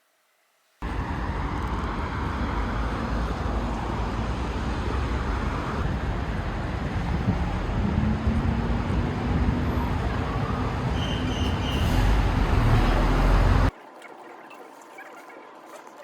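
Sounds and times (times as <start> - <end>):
road traffic rumble: 0.8 - 13.7.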